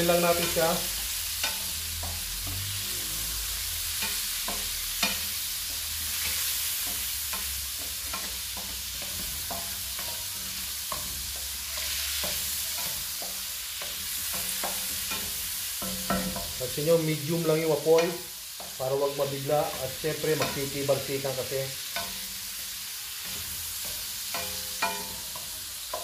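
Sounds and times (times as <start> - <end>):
seafood sizzling in a frying pan: 0.0 - 26.0
wooden spoon scraping a pan: 0.0 - 26.0.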